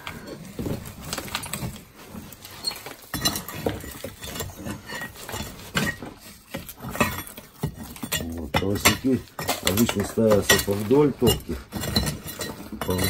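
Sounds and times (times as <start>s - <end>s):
ash and rubble being scraped: 0.0s - 13.0s.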